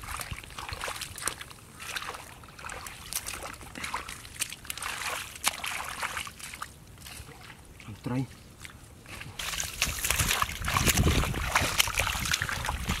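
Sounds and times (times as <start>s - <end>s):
hands splashing in muddy water: 0.0s - 7.9s, 8.6s - 13.0s.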